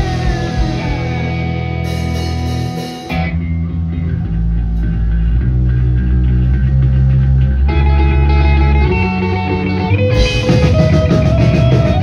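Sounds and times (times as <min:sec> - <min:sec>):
electric guitars ringing: 0:00.0 - 0:12.0.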